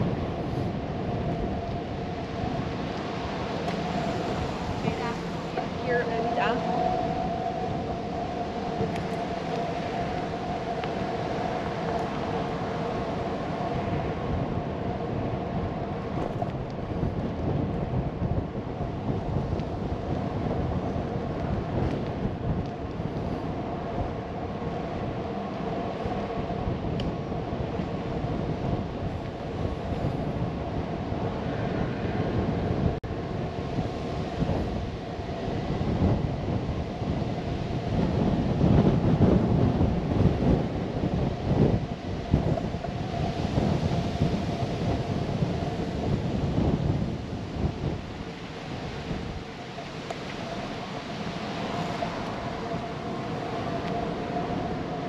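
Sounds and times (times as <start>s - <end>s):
rumbling ride noise: 0.0s - 55.0s
steady whine: 0.0s - 55.0s
wind buffeting microphone: 0.0s - 55.0s.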